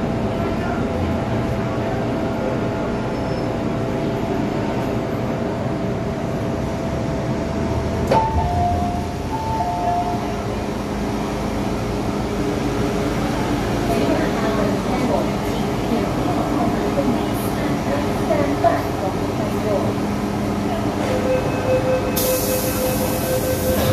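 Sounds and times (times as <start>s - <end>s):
train interior hum and rumble: 0.0s - 23.9s.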